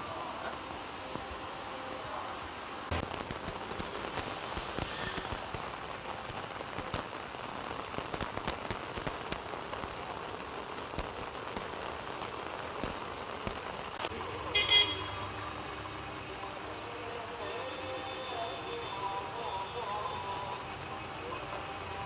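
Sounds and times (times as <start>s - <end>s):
heavy rain on a flooded road: 0.0s - 22.0s.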